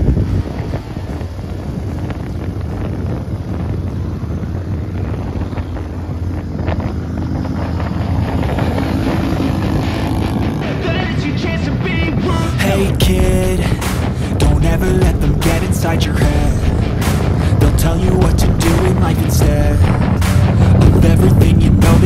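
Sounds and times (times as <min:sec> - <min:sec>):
motorcycle engine drone: 0:00.0 - 0:22.0
wind noise on microphone: 0:00.0 - 0:22.0.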